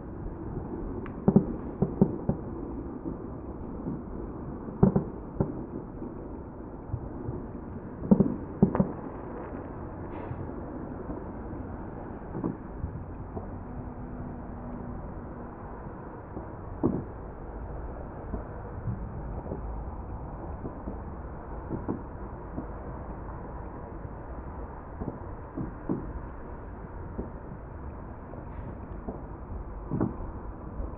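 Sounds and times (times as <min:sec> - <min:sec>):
low rumble: 0:00.0 - 0:30.9.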